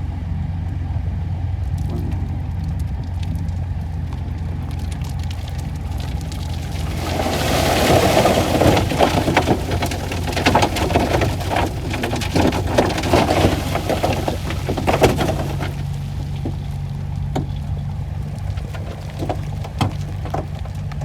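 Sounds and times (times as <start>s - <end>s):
diesel engine running: 0.0s - 21.0s
soil and stones tumbling: 0.1s - 21.0s
rock cracking: 1.6s - 21.0s.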